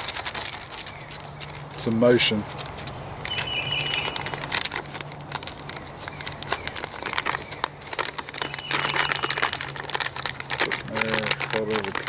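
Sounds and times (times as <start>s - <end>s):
drink pouch crinkling: 0.0s - 12.0s.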